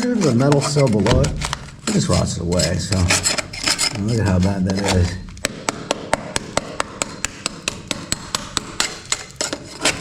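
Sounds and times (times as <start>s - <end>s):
hand tool chipping on metal: 0.0s - 10.0s.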